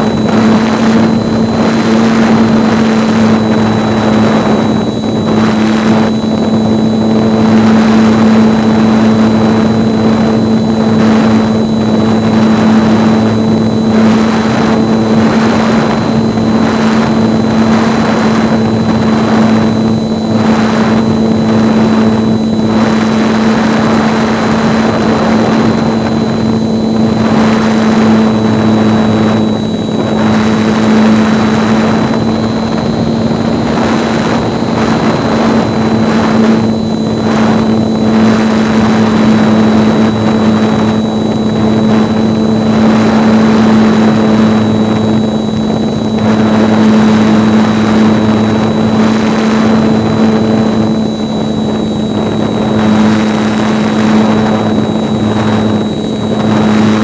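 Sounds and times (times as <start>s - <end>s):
air rushing over microphone: 0.0s - 57.0s
model plane motor droning: 0.0s - 57.0s.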